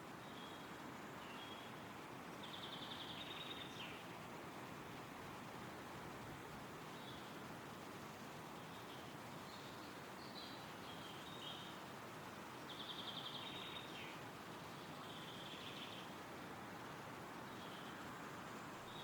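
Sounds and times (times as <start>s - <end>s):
wind rustling through trees: 0.0s - 19.0s.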